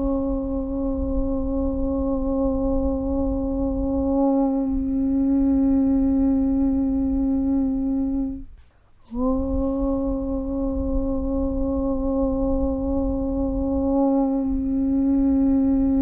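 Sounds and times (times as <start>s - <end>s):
voice chanting aum: 0.0s - 16.0s.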